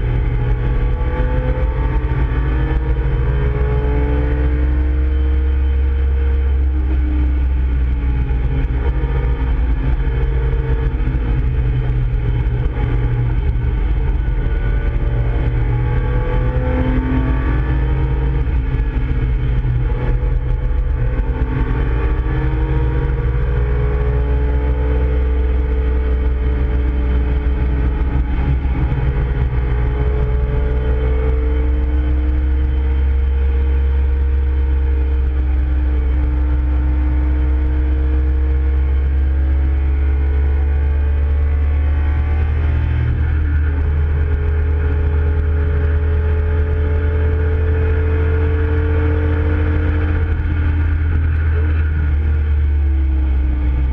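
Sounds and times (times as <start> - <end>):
car engine accelerating: 0.0 - 53.9
low cabin rumble: 5.8 - 53.9.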